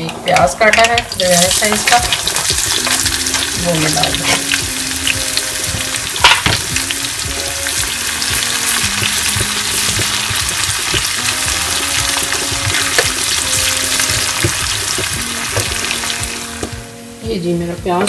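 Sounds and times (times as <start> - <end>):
oil crackling: 0.7 - 16.9
onions sizzling in oil: 1.0 - 18.0.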